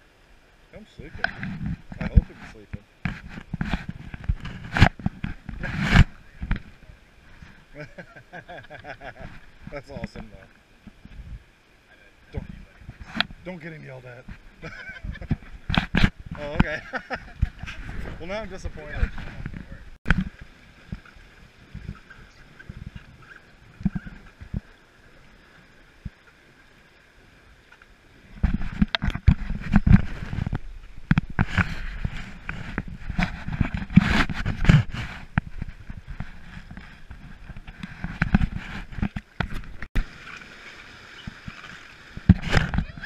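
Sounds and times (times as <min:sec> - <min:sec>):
water splashes: 0:00.0 - 0:43.0
paddle strokes: 0:00.8 - 0:43.0.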